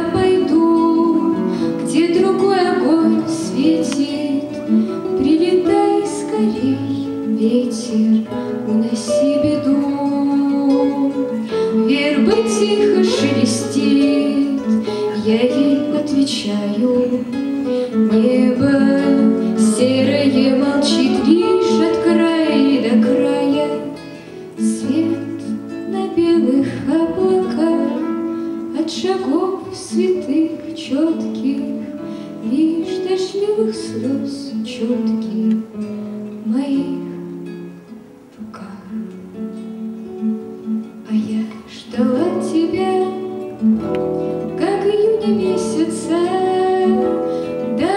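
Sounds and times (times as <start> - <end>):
girl singing: 0.0 - 37.4, 38.4 - 47.9
acoustic guitars playing: 0.0 - 47.9.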